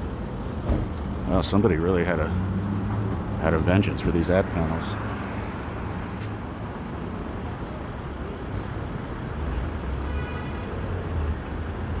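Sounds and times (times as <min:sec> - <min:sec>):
passing vehicles rumble: 0:00.0 - 0:12.0.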